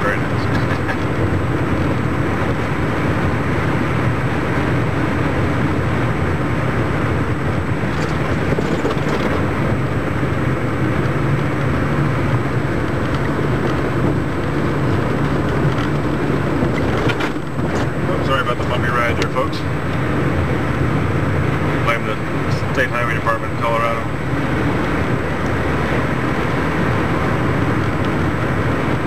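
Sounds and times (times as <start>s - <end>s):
car cabin road and engine noise: 0.0s - 29.0s.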